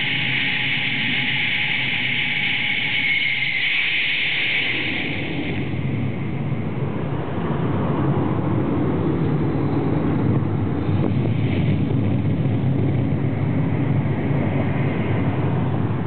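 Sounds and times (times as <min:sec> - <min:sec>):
jet engine roar over loudspeaker: 0:00.0 - 0:16.0.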